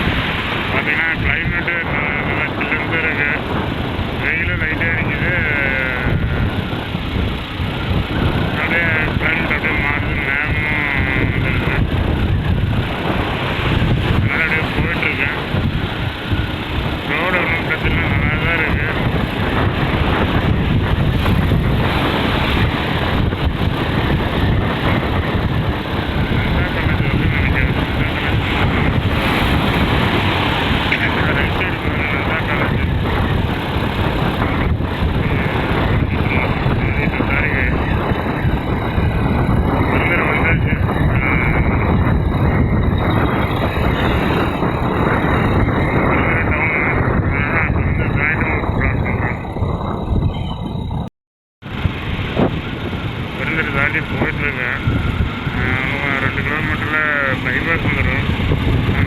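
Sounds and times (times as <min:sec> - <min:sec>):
motorcycle engine running: 0:00.0 - 0:46.6, 0:49.3 - 0:59.0
road noise: 0:00.0 - 0:59.0
wind buffeting microphone: 0:00.0 - 0:59.0.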